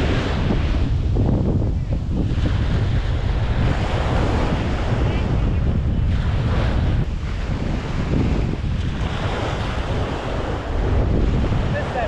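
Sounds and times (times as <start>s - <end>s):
open water around boat: 0.0s - 12.0s
wind buffeting microphone: 0.0s - 12.0s.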